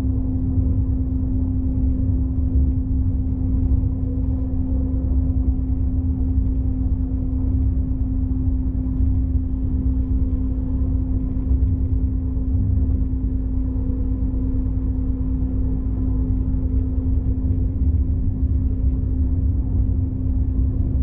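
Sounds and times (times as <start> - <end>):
constant hum: 0.0 - 21.0
train interior rumble: 0.0 - 21.0.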